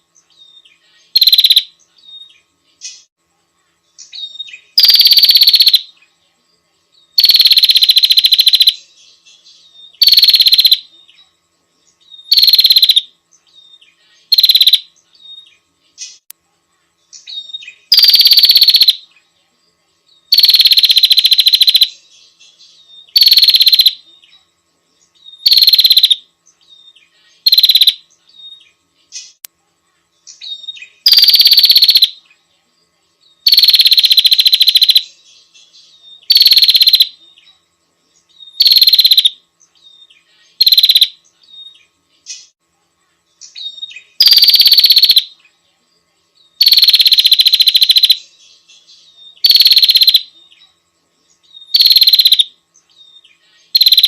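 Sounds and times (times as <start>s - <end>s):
bird buzzy trill: 0.0s - 3.2s, 4.0s - 6.0s, 7.1s - 11.3s, 11.9s - 16.3s, 17.0s - 19.3s, 20.2s - 24.4s, 25.0s - 29.5s, 30.2s - 32.3s, 33.4s - 37.6s, 38.2s - 42.6s, 43.4s - 45.5s, 46.6s - 50.6s, 51.4s - 54.0s.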